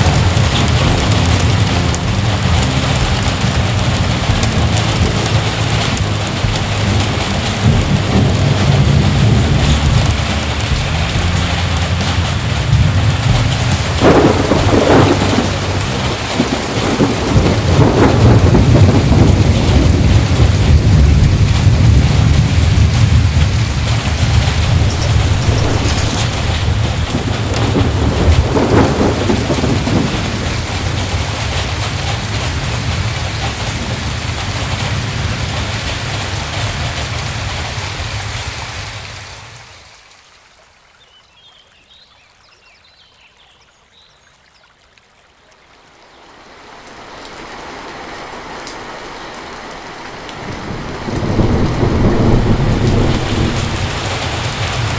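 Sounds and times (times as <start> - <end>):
thunder rumbling and crackling: 0.0 - 39.6, 47.5 - 54.9
heavy rain falling: 0.0 - 44.1, 45.1 - 54.9.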